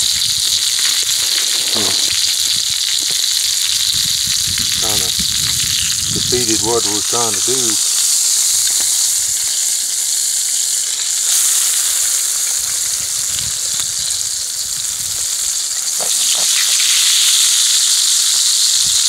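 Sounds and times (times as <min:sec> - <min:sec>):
bacon sizzling in a skillet: 0:00.0 - 0:19.0.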